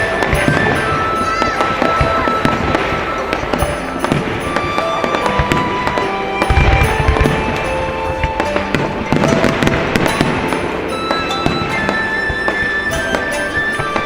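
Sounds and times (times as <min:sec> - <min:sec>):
fireworks bursting and crackling: 0:00.0 - 0:14.0
music: 0:00.0 - 0:14.0.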